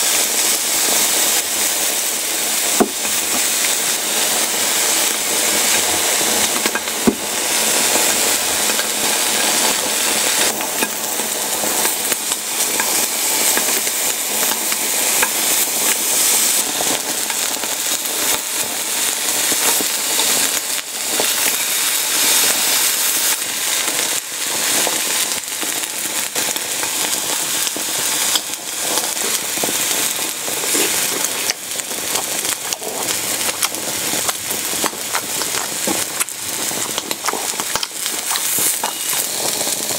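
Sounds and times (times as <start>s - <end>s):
meat sizzling on griddle: 0.0s - 39.9s.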